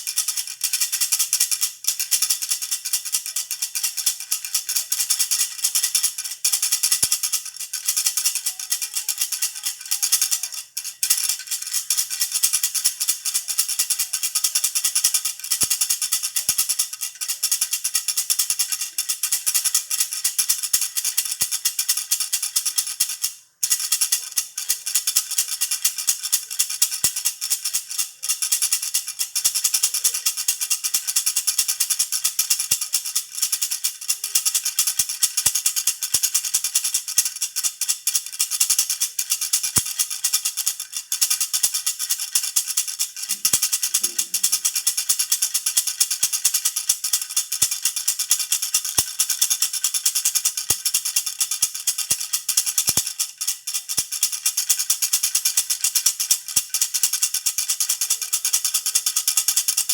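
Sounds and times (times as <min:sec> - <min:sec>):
baby rattle jingling: 0:00.0 - 0:59.9.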